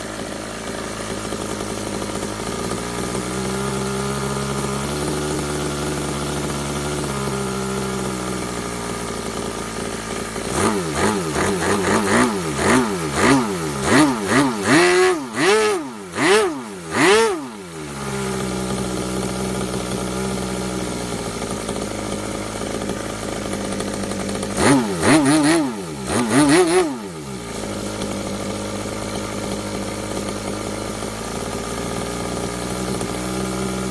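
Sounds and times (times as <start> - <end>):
model glow engine idling and revving: 0.0 - 33.9.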